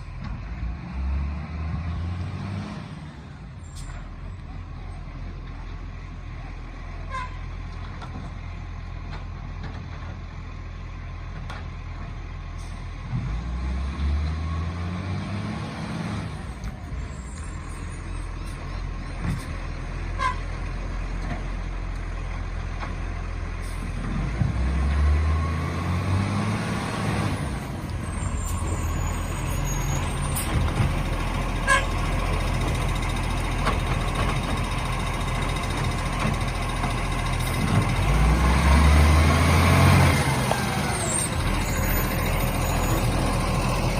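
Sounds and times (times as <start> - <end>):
diesel engine revving: 0.0 - 43.9.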